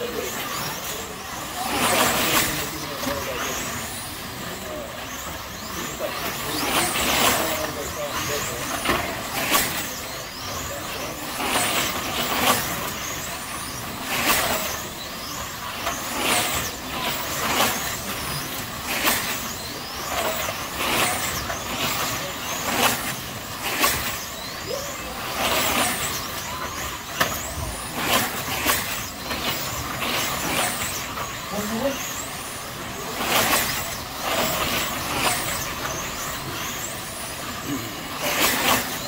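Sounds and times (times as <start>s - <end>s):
slot cars whizzing past: 0.0s - 39.0s.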